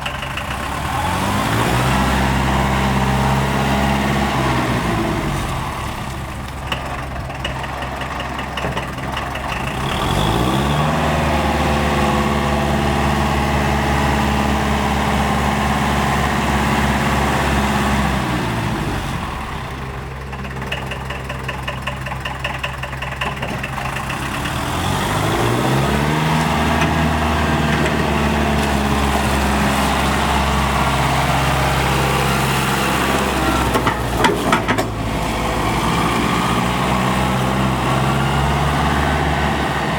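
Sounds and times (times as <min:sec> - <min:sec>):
tractor diesel engine clatter: 0:00.0 - 0:39.9.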